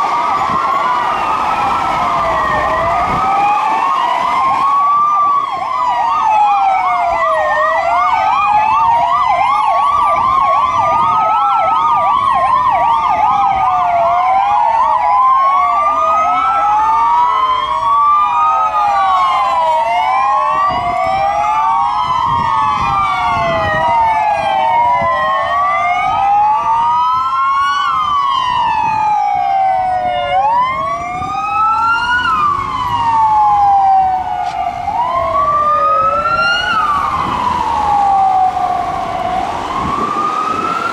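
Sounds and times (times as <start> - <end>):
police sirens wailing: 0.0 - 40.9
siren yelp: 0.0 - 40.9
vehicle noise: 0.0 - 40.9.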